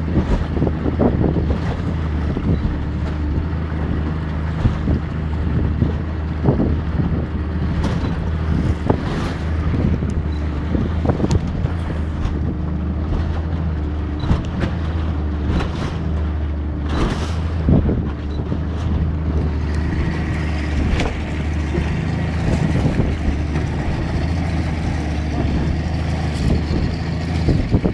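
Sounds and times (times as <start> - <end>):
hull thumping and splashing on waves: 0.0 - 27.9
outboard motor running: 0.0 - 27.9.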